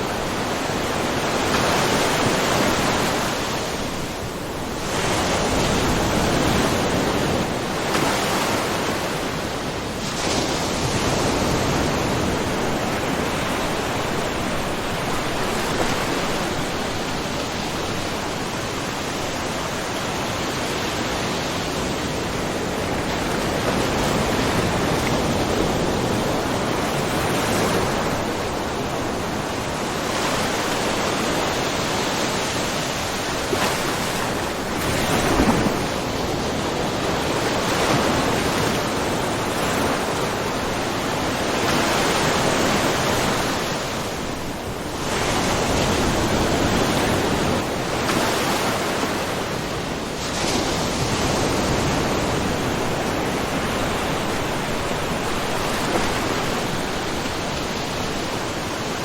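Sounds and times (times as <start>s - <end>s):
waves lapping on rocky shore: 0.0s - 59.0s.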